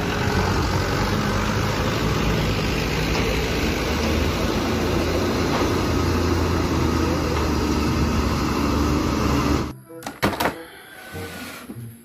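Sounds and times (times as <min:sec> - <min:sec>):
truck engine running: 0:00.0 - 0:09.7.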